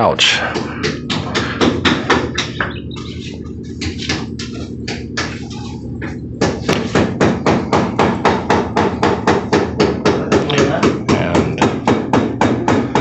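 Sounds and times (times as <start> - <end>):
rapid hammering: 0.0 - 13.0
steady low hum: 0.0 - 13.0.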